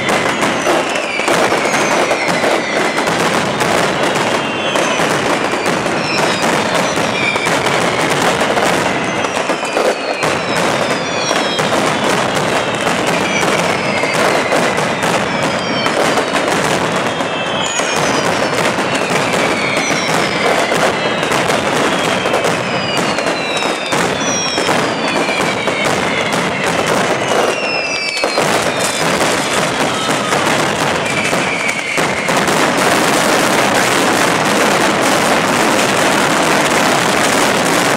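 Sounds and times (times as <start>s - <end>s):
falling high whistles: 0.0s - 32.4s
firecrackers banging: 0.0s - 37.9s.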